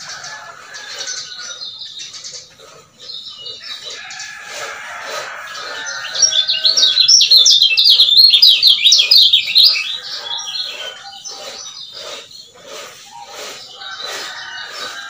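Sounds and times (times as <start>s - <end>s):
bird chirping song: 0.0s - 15.0s.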